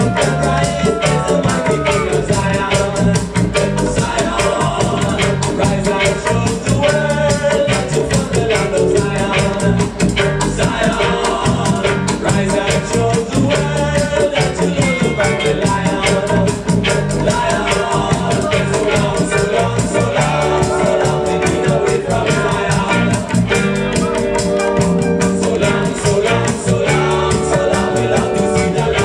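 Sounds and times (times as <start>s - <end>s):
reggae music through sound system: 0.0s - 29.0s.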